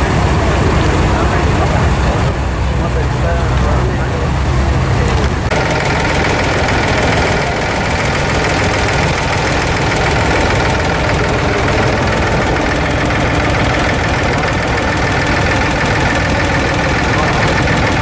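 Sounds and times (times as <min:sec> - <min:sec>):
boat diesel engine chugging: 0:00.0 - 0:18.0.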